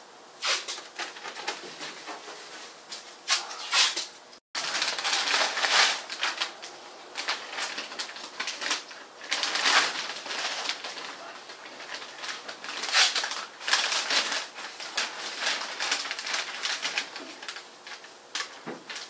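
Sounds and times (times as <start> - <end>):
plastic sheeting crinkling: 0.4 - 4.0, 4.6 - 19.0.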